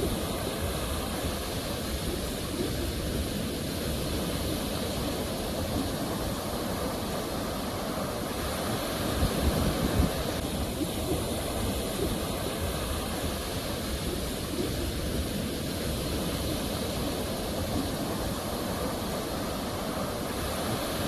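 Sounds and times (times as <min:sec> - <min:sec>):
ocean waves rushing: 0:00.0 - 0:21.0.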